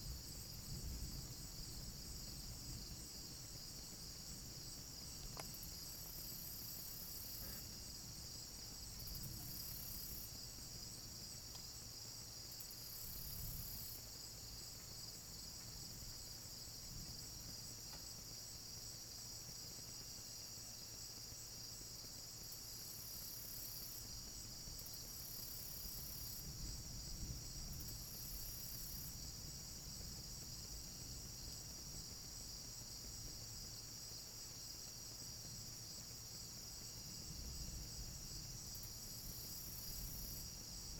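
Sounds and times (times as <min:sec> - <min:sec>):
crickets trilling: 0:00.0 - 0:40.9
high insect buzz: 0:00.0 - 0:40.9.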